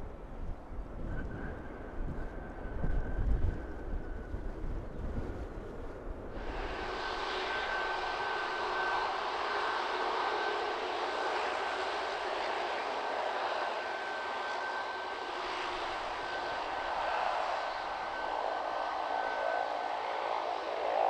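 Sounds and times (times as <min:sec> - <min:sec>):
jet engine rush and whine: 0:00.0 - 0:21.0.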